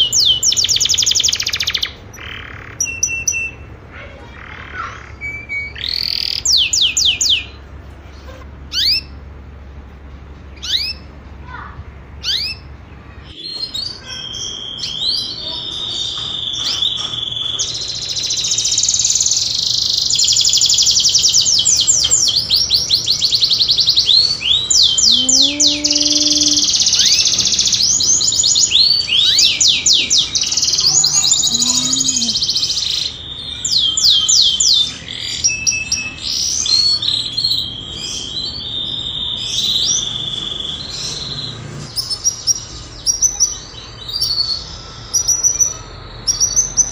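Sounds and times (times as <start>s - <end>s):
canary singing in trills: 0.0s - 46.9s.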